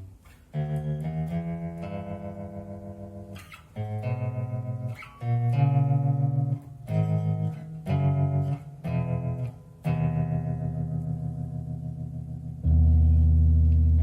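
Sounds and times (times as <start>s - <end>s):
bass guitar notes ringing: 0.0s - 14.0s.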